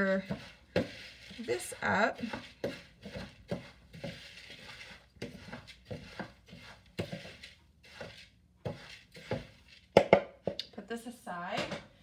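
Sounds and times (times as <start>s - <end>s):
spoon stirring oats in plastic bowl: 0.0s - 10.6s.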